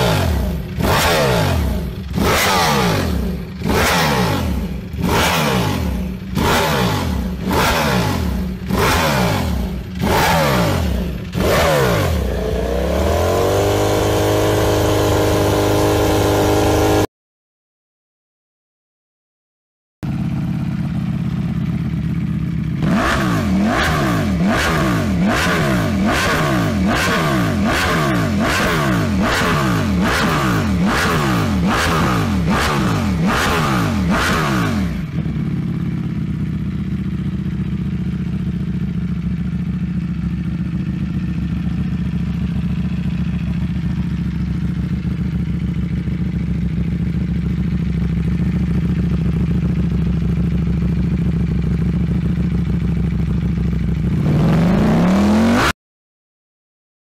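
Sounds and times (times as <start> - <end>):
motorcycle engine revving and idling: 0.0 - 17.1, 20.0 - 55.8.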